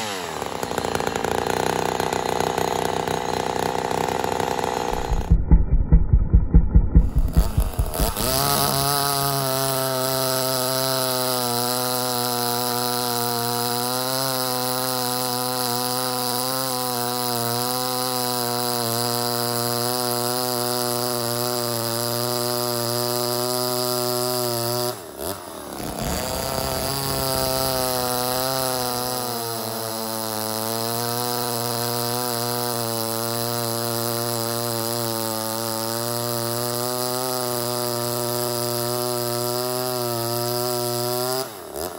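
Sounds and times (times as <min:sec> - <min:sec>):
chainsaw running at high revs: 0:00.0 - 0:41.9.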